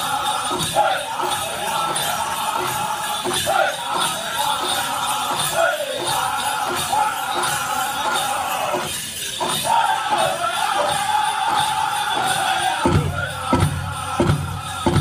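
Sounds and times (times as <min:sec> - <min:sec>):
beaten drum: 0:00.0 - 0:15.0
group singing in high voices: 0:00.0 - 0:15.0.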